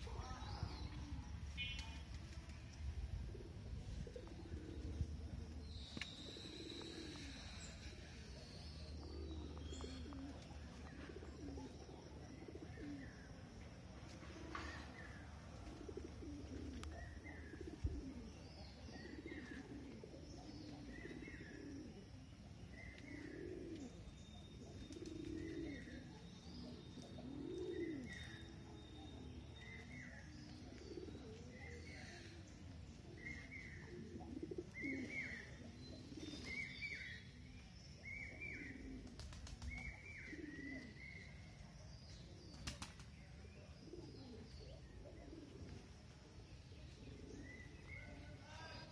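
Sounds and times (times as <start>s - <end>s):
low cooing calls: 0.0s - 48.9s.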